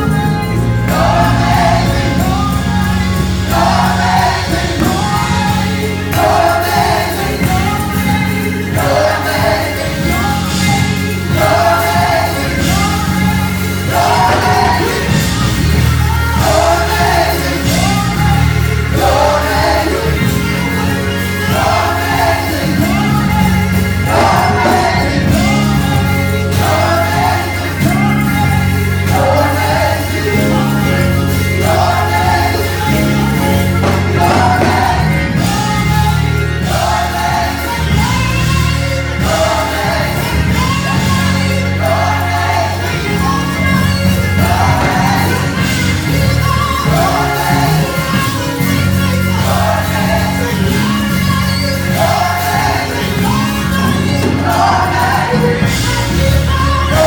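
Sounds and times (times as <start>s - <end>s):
band accompaniment with bass: 0.0s - 57.0s
gospel choir singing: 0.0s - 57.0s.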